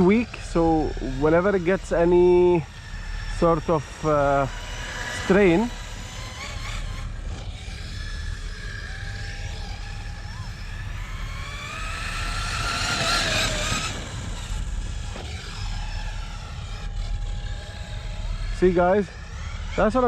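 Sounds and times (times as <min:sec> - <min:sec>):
electric motor whining: 0:00.0 - 0:20.0
steady low rumble: 0:00.0 - 0:20.0.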